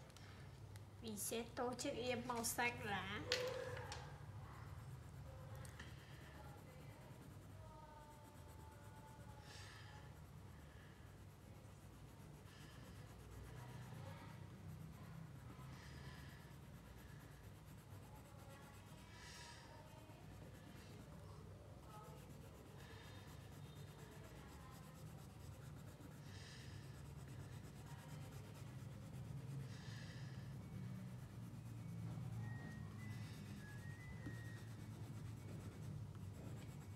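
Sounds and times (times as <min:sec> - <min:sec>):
colored pencil scratching on paper: 0:04.1 - 0:36.9.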